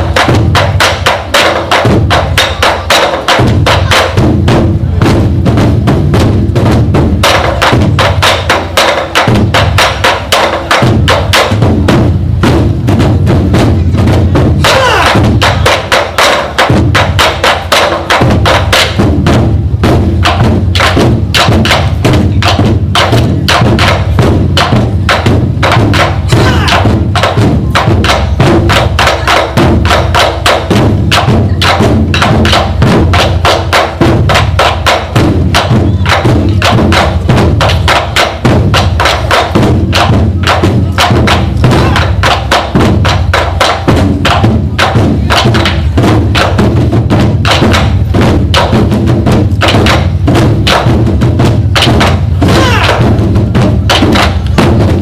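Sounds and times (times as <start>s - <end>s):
drum ensemble playing fast rhythm: 0.0s - 55.0s
woody clacks: 0.0s - 55.0s.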